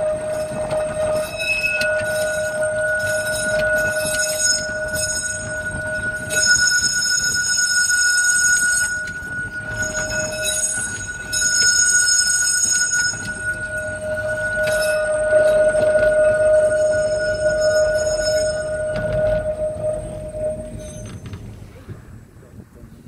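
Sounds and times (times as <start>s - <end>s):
tram wheels squealing on rail: 0.0s - 22.2s.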